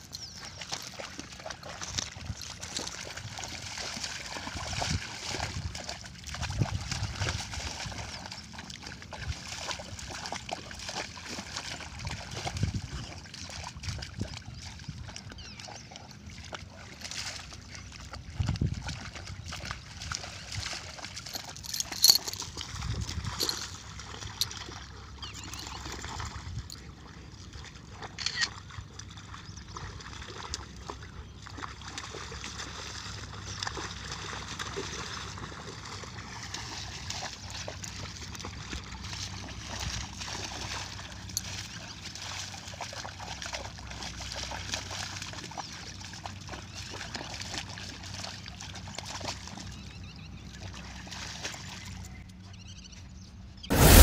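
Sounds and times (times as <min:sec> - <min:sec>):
dogs splashing in puddle: 0:00.0 - 0:52.9.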